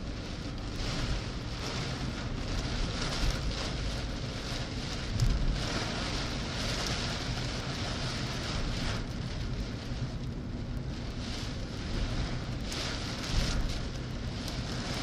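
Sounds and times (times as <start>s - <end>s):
car interior road rumble: 0.0s - 15.0s
rain hissing on windscreen: 0.0s - 15.0s
tyres on wet road: 0.0s - 15.0s.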